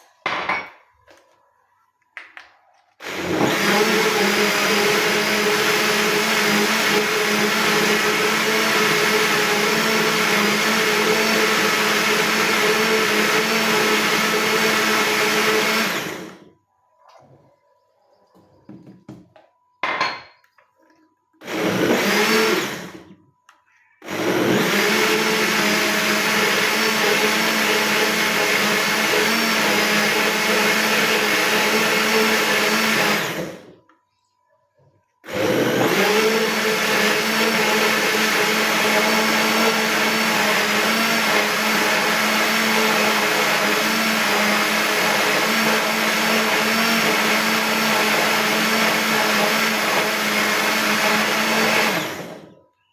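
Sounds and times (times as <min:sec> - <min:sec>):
electric blender blending: 0:03.0 - 0:16.5, 0:21.4 - 0:23.2, 0:24.0 - 0:33.8, 0:35.2 - 0:52.6.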